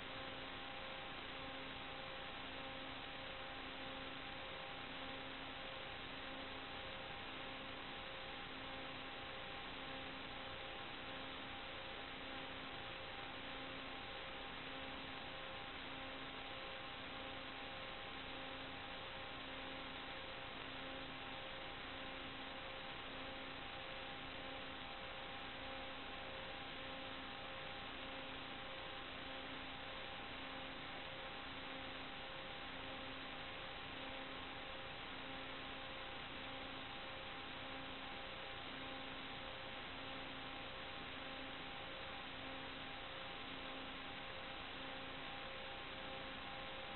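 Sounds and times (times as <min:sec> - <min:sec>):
faint hum of steady tones: 0:00.0 - 0:46.9.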